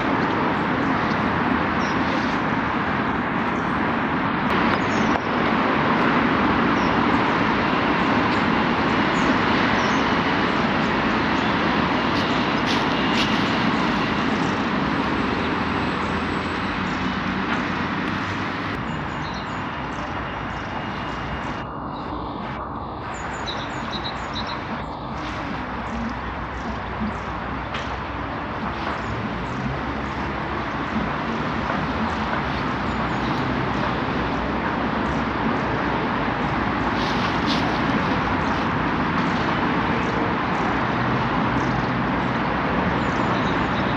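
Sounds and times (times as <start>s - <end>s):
vehicle rumble and hiss: 0.0s - 43.9s.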